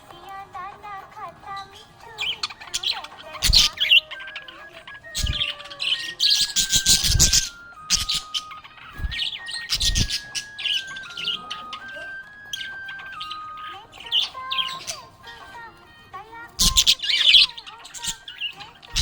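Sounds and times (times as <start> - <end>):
background music with held notes: 0.0 - 19.0
budgerigar chirping and warbling: 1.5 - 15.7, 16.4 - 19.0.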